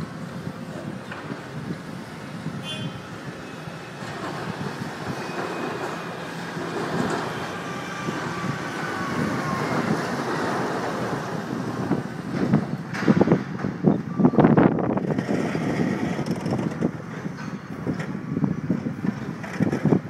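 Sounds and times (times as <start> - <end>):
diesel engines running: 0.0 - 20.0.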